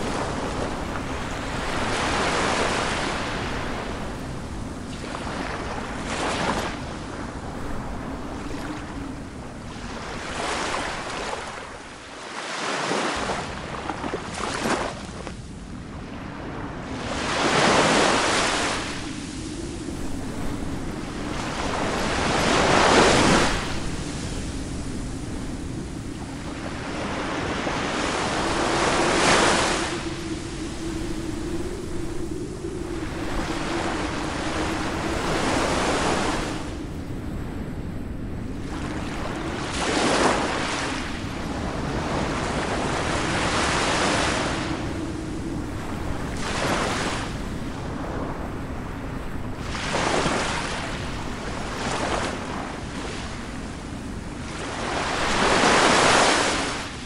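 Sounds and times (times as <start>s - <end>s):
ocean waves breaking: 0.0s - 48.9s, 49.5s - 57.0s.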